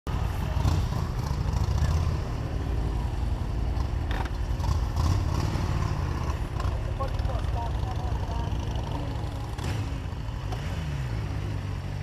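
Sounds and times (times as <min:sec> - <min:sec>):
motorcycle engine rumbling: 0:00.1 - 0:12.0.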